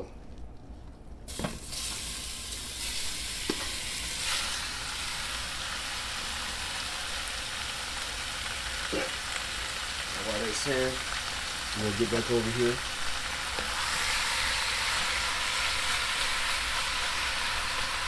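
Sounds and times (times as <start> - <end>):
meat sizzling in a hot pot: 1.3 - 18.0.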